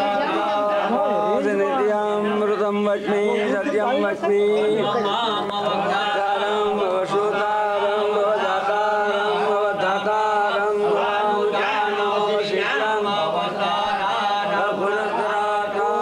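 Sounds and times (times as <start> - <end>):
mantra chanting: 0.0 - 16.0.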